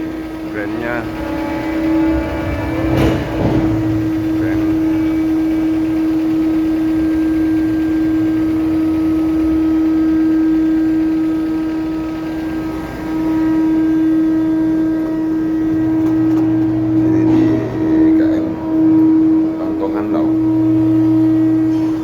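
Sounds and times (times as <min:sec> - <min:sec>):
ship machinery hum: 0:00.0 - 0:22.0
strong steady tone: 0:00.0 - 0:22.0.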